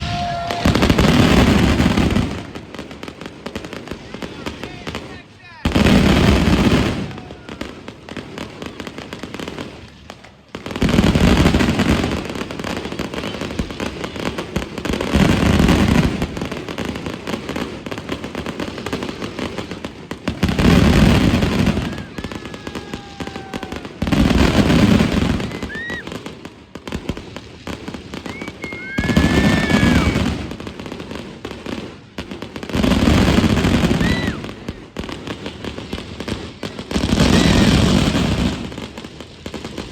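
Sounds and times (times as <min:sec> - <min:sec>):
fireworks booms: 0:00.0 - 0:39.9
fireworks crackling: 0:00.0 - 0:39.9
fireworks whistles: 0:00.0 - 0:39.9.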